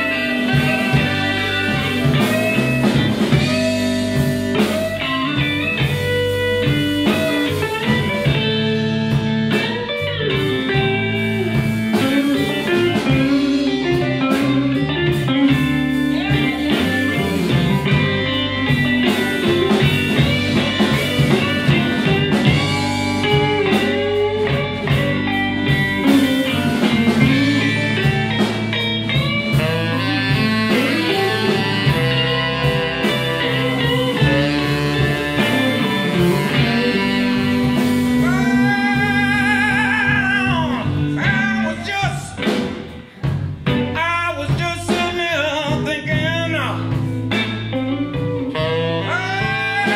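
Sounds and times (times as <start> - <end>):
bass: 0.0 - 49.9
drums: 0.0 - 49.9
electric guitar lead with bends: 0.0 - 49.9.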